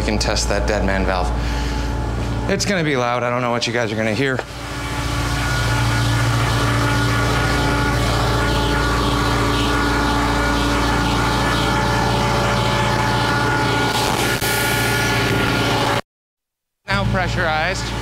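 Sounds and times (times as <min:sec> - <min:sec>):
diesel compressor engine drone: 0:00.0 - 0:16.0, 0:16.9 - 0:18.0.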